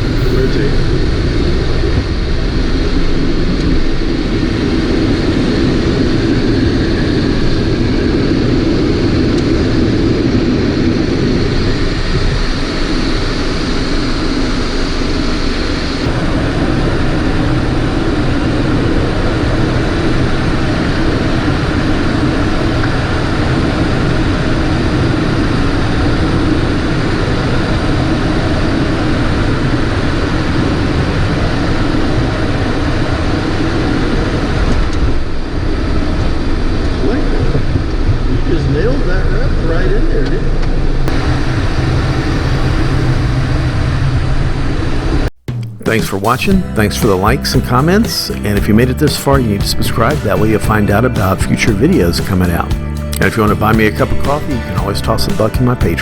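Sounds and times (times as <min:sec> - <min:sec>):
faint high whine: 0:00.0 - 0:49.3
jet engine and airflow noise: 0:00.0 - 0:56.0.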